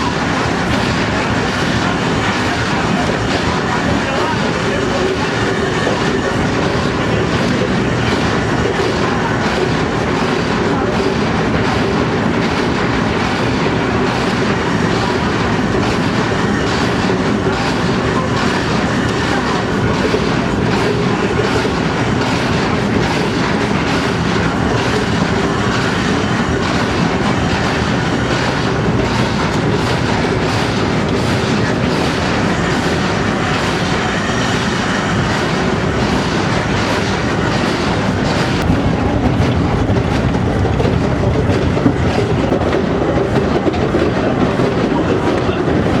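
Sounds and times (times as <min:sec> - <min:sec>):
rapid clicking of wheels: 0:00.0 - 0:46.0
train wheels rumbling on rail: 0:00.0 - 0:46.0.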